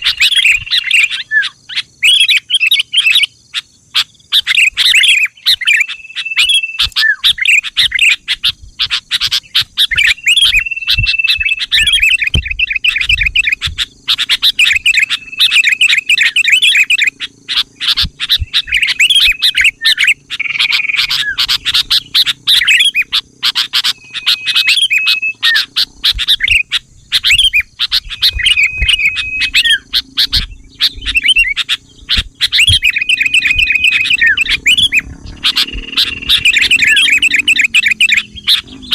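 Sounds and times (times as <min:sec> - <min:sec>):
bird whistle: 0:00.0 - 0:38.9
bulbul chirping: 0:00.0 - 0:38.9.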